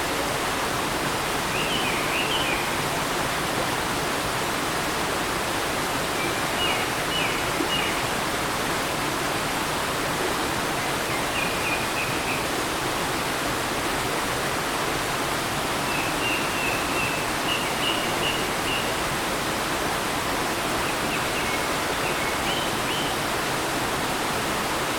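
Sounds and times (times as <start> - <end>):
stream running over rocks: 0.0 - 24.9.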